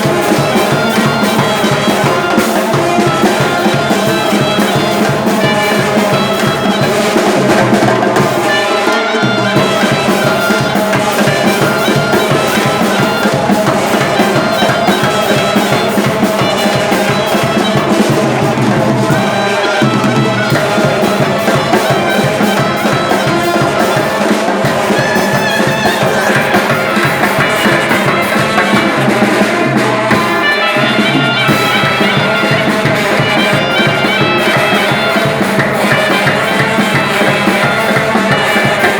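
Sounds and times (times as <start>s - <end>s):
fast steady drumming: 0.0s - 38.9s
shrill wind instrument melody: 0.0s - 38.9s.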